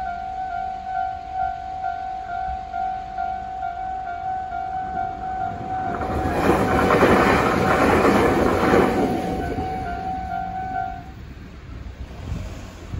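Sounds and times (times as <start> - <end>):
crossing warning bell: 0.0 - 11.4
electric train passing: 0.0 - 12.9.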